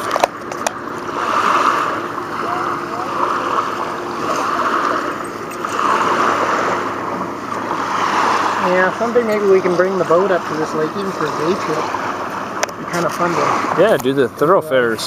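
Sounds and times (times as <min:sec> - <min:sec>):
waves lapping on sandy shore: 0:00.0 - 0:15.0.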